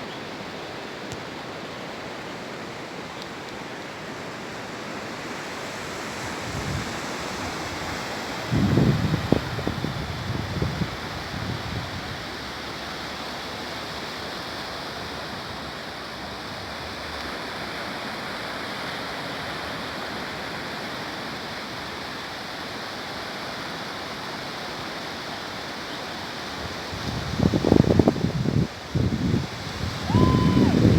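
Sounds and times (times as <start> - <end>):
sea surf rushing: 0.7 - 30.9.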